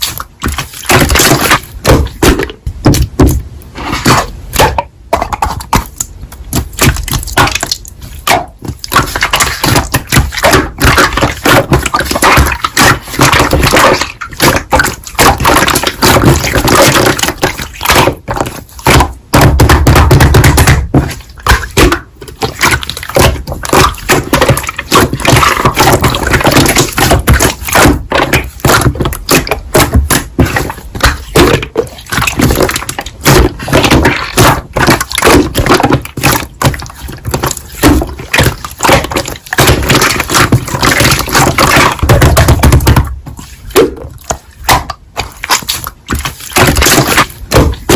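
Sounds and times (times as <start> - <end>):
sticky popping and clicking: 0.0 - 47.9.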